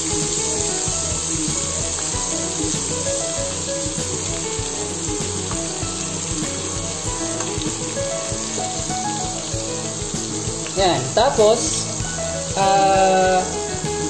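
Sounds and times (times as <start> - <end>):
butter sizzling in a frying pan: 0.0 - 14.0.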